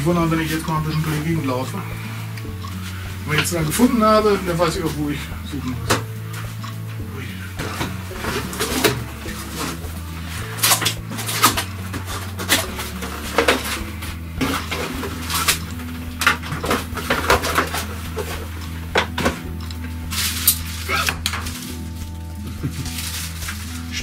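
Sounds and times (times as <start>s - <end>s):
low steady background tones: 0.0s - 24.0s
objects clattering and knocking: 0.0s - 24.0s.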